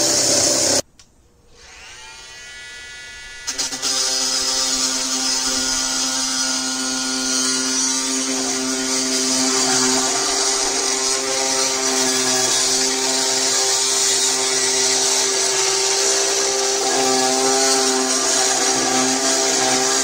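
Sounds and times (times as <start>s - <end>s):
multi-tool cutting sheet metal: 0.0s - 0.8s, 1.5s - 20.0s.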